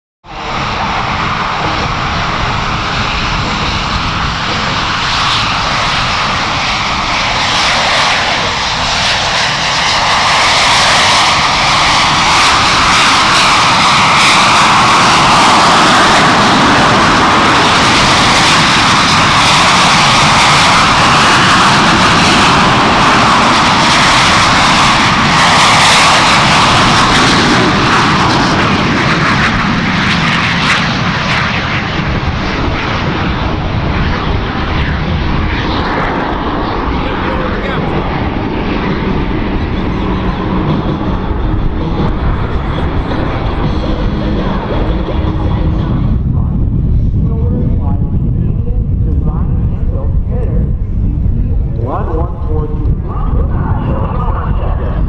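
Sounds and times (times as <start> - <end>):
jet engines roaring: 0.2 - 55.0.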